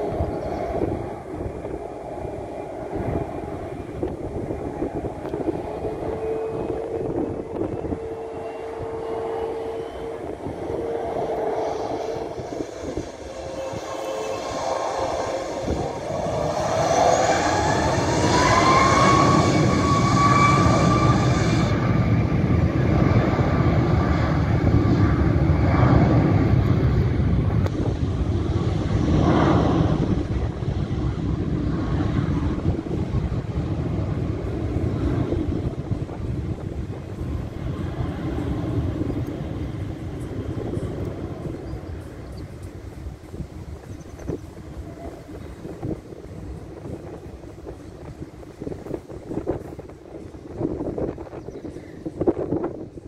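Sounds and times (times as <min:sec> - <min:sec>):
jet engines spooling up: 0:00.0 - 0:53.0
loud jet noise: 0:00.0 - 0:53.0.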